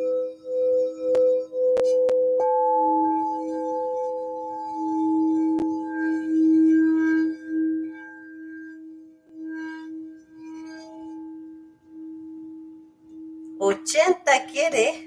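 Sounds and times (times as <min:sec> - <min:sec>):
crystal singing bowl tone: 0:00.0 - 0:13.6.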